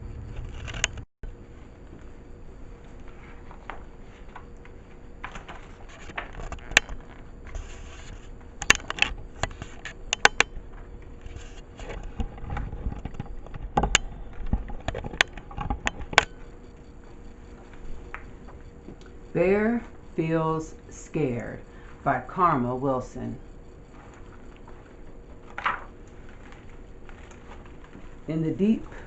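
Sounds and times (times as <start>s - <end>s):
rustling and scraping: 0.0s - 20.1s, 23.4s - 29.0s.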